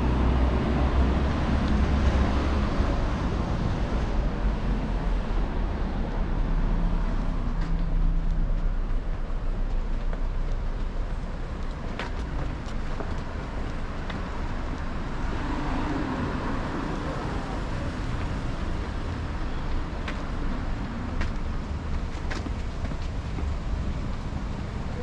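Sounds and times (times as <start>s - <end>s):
steady car traffic: 0.0s - 25.0s.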